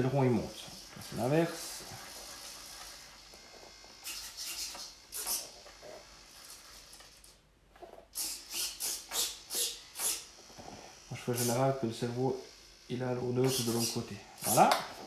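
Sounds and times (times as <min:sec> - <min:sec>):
servos whirring: 0:00.0 - 0:15.0.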